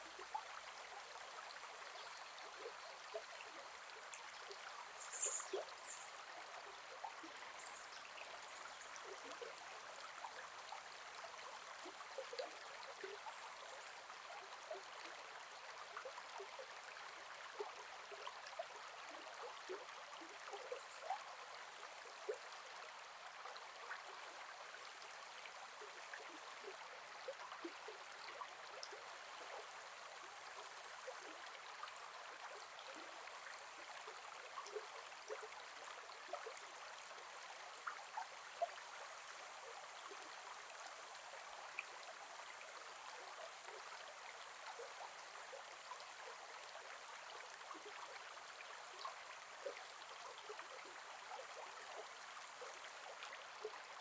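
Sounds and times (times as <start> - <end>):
river water flowing and gurgling: 0.0 - 54.0.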